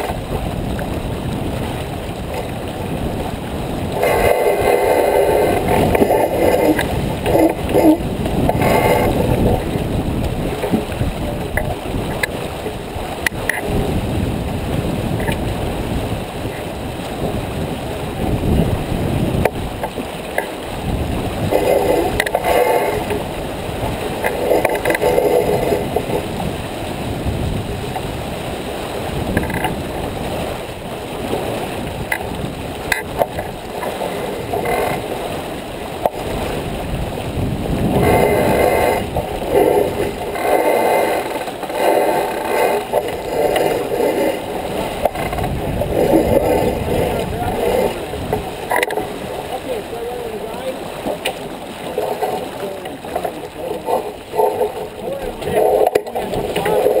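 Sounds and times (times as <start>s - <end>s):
water washing along hull: 0.0s - 57.0s
wind on microphone: 0.0s - 57.0s.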